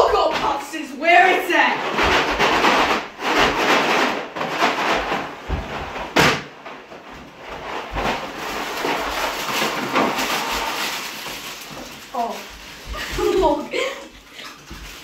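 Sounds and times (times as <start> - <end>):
plastic bags rustling: 0.0 - 15.0
cardboard ripping: 1.9 - 15.0.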